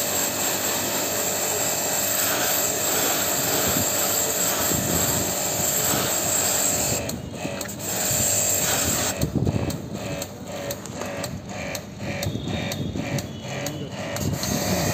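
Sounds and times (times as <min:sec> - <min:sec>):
jet washer spraying water: 0:00.0 - 0:14.9.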